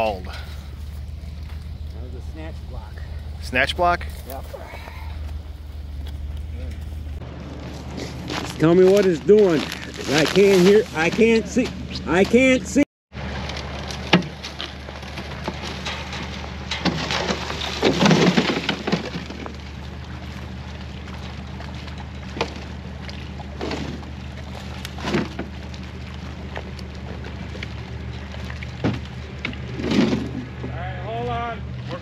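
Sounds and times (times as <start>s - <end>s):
metal crunching and scraping: 0.0s - 32.0s
truck engine running: 0.0s - 32.0s.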